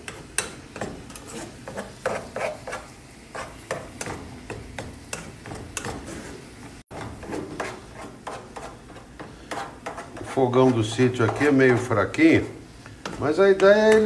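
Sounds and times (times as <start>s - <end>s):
spatula scraping a frying pan: 0.0s - 14.0s.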